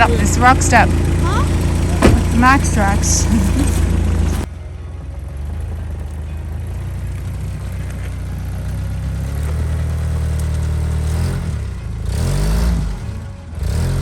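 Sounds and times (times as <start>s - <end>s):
truck engine pulling under load: 0.0s - 14.0s.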